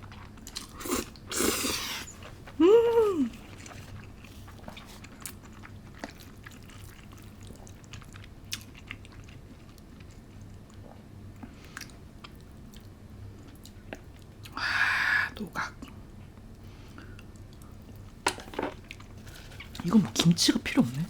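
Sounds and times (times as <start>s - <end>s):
chewing crunchy food: 0.0s - 2.6s, 3.3s - 14.6s, 15.8s - 21.0s.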